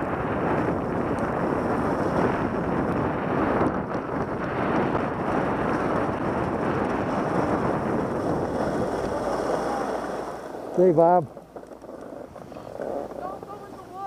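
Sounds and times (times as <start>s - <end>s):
wind rushing over microphone: 0.0s - 14.0s
skis sliding on packed snow: 0.1s - 14.0s.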